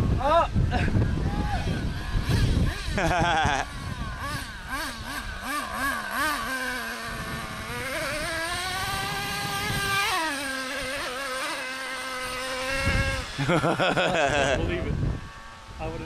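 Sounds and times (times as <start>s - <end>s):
small two-stroke engine revving: 0.0s - 16.0s.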